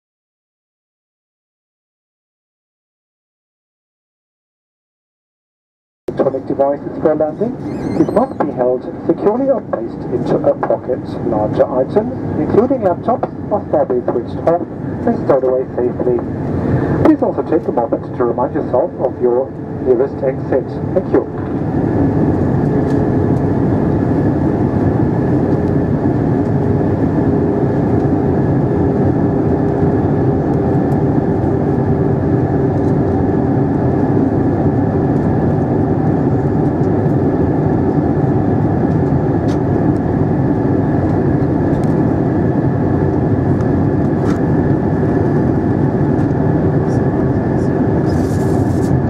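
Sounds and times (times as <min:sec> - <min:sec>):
airplane cabin airflow rush: 0:06.1 - 0:49.0
jet engine drone: 0:06.1 - 0:49.0.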